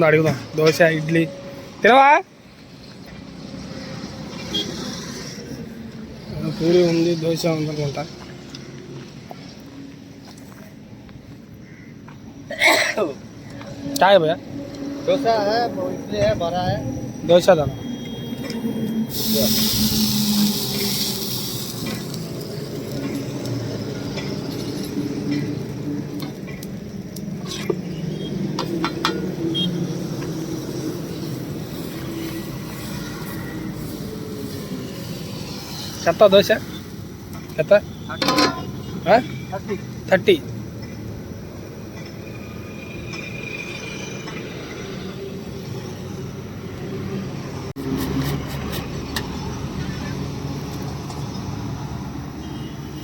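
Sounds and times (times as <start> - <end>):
vehicle engines humming: 0.0 - 53.0.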